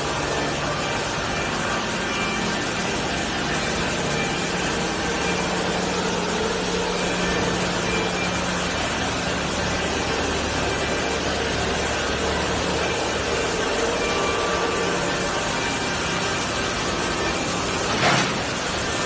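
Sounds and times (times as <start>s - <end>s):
machine shop hiss and hum: 0.0s - 19.0s.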